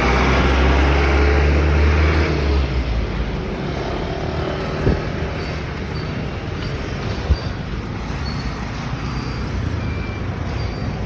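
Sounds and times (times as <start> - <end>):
steady traffic noise: 0.0 - 11.0.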